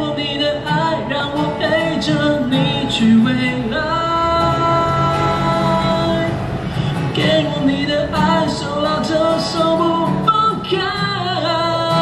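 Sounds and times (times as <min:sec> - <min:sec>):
acoustic guitar: 0:00.0 - 0:12.0
man singing: 0:00.0 - 0:12.0.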